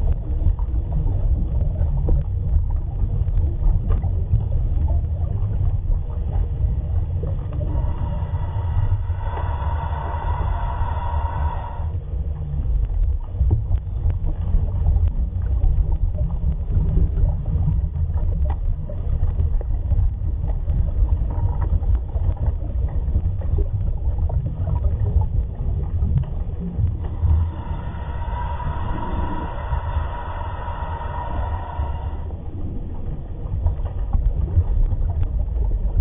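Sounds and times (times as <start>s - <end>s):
low underwater rumble: 0.0s - 36.0s.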